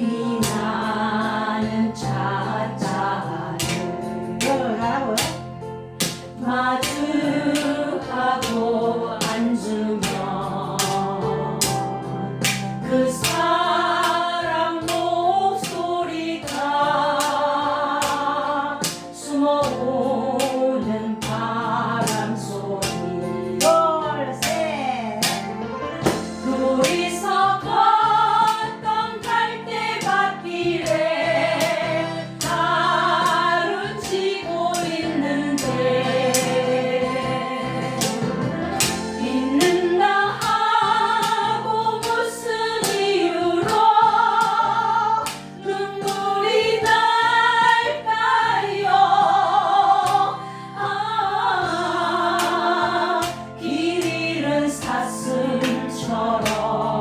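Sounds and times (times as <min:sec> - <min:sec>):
group singing a ballad: 0:00.0 - 0:57.0.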